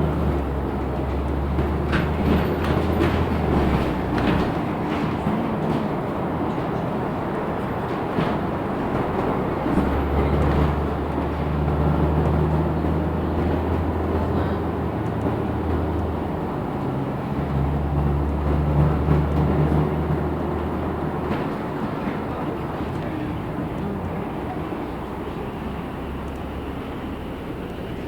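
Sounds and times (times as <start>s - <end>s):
bus engine drone: 0.0s - 28.0s
road and running-gear noise: 0.0s - 28.0s.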